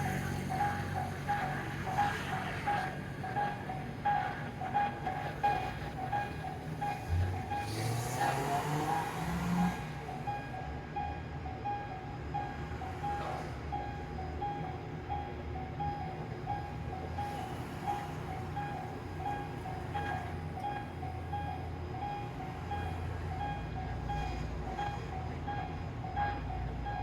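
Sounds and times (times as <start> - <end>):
railroad crossing bell ringing: 0.0 - 8.3, 9.8 - 27.0
train rumbling: 0.0 - 27.0.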